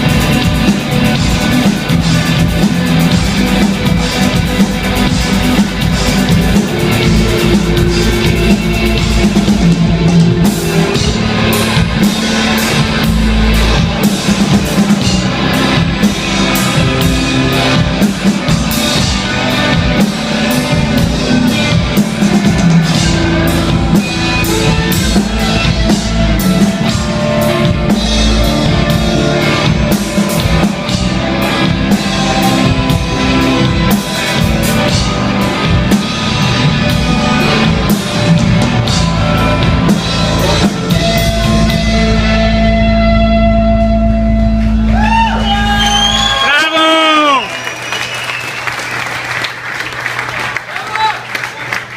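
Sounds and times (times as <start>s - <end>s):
rock band playing live: 0.0s - 50.4s.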